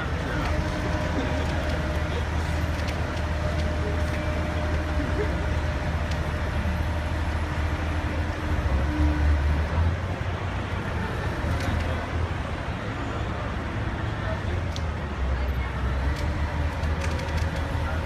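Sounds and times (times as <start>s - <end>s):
heavy vehicle engine rumbling: 0.0s - 18.0s
street traffic: 0.0s - 18.0s.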